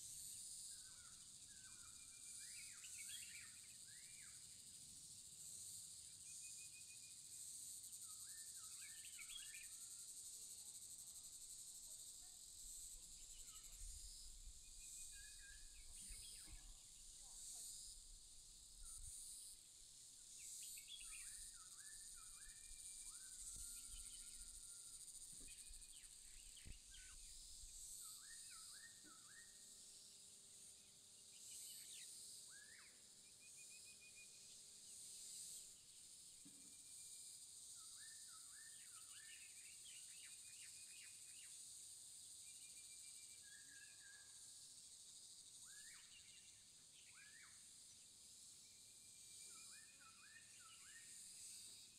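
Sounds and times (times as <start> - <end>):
insects hissing: 0.0 - 51.9.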